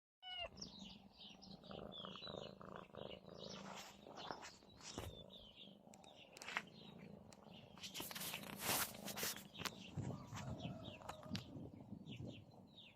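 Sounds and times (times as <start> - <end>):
cat purring: 0.5 - 12.8.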